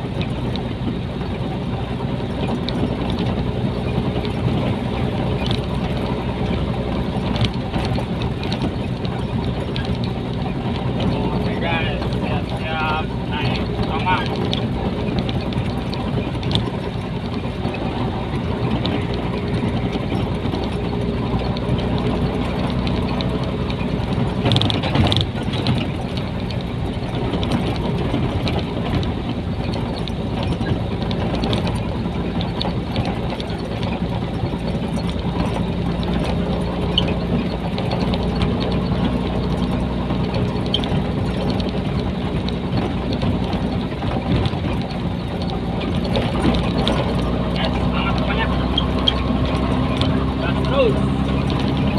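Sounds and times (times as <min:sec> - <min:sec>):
loud engine clatter: 0:00.0 - 0:51.9
truck diesel engine running: 0:00.0 - 0:51.9.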